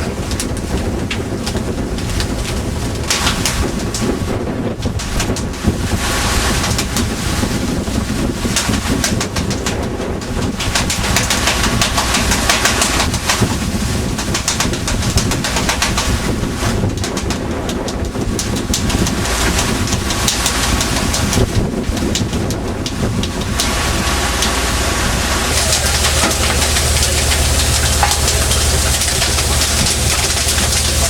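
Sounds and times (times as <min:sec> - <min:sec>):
boat engine drone: 0:00.0 - 0:31.0
wind and water rushing: 0:00.0 - 0:31.0.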